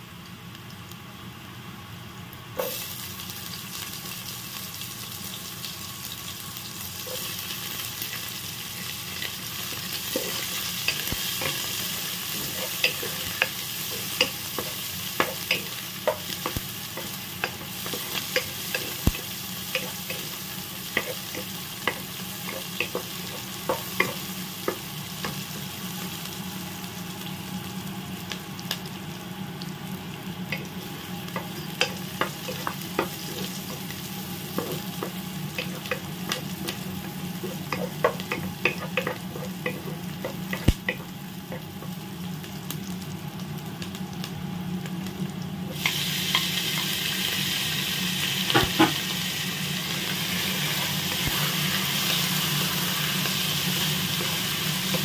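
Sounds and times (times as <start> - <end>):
onion sizzling in oil: 0.0 - 55.0.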